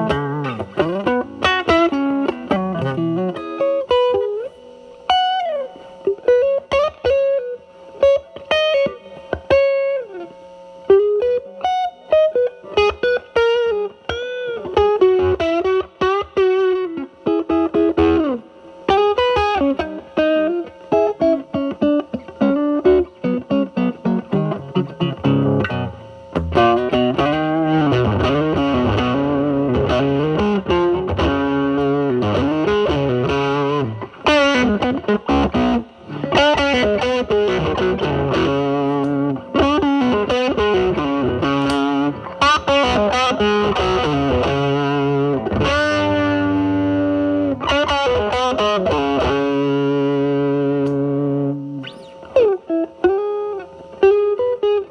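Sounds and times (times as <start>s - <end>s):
fuzz electric guitar: 0.0s - 54.9s.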